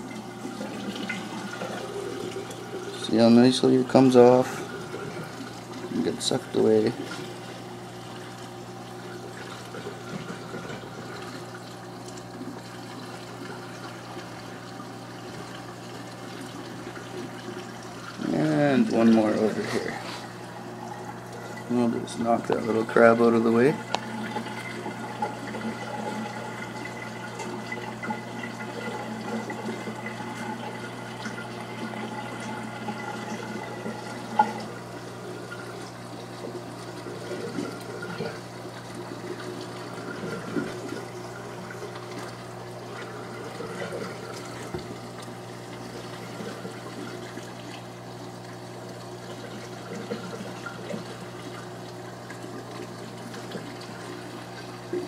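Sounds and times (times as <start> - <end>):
aquarium pump hum: 0.0 - 55.0
running and trickling water: 0.0 - 55.0.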